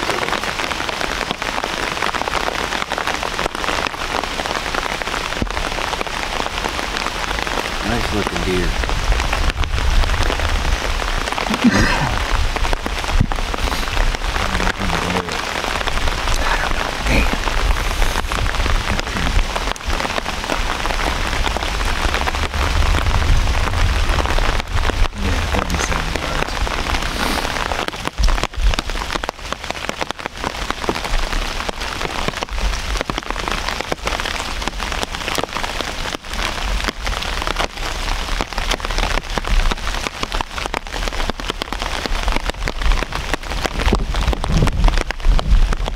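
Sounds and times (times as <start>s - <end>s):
rain on umbrella fabric: 0.0s - 45.9s.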